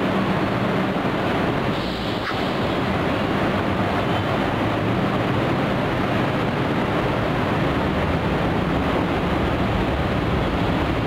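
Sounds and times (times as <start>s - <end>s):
light rail train running past: 0.0s - 11.0s.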